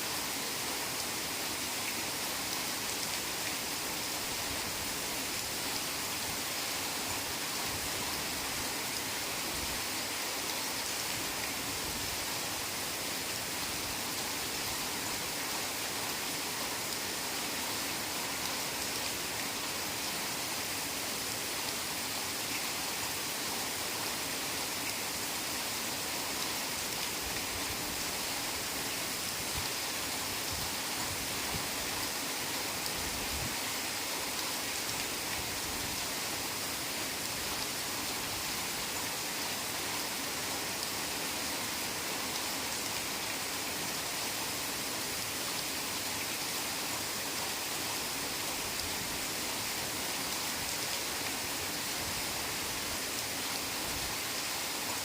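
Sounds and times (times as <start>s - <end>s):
heavy rain in forest: 0.0s - 55.0s.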